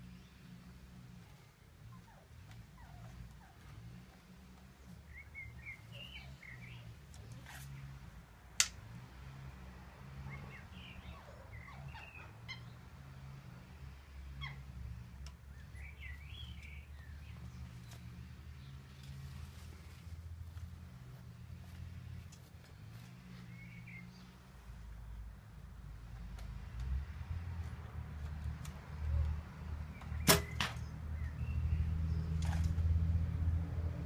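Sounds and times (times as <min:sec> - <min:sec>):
small birds chirping: 0:00.0 - 0:08.3, 0:10.0 - 0:26.9, 0:27.6 - 0:32.8.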